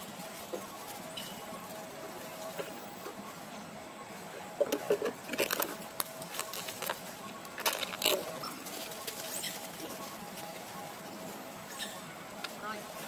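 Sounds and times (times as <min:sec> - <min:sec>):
monkeys rustling and scraping: 0:00.0 - 0:13.0.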